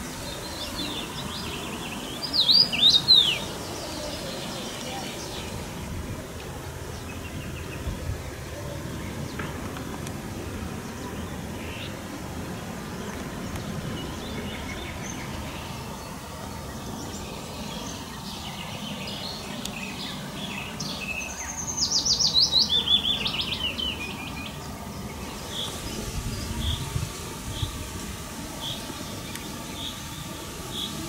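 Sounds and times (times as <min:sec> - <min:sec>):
loud bird song descending run: 0:00.0 - 0:31.0
songbirds singing: 0:00.0 - 0:31.0
steady low rumble: 0:00.0 - 0:31.0.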